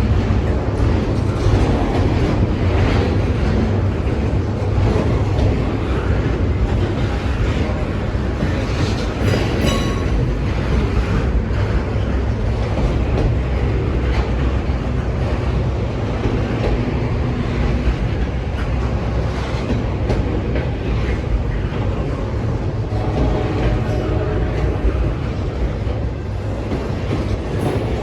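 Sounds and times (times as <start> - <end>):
freight train wheels rumbling on rail: 0.0 - 28.0
rail clicks: 0.0 - 28.0.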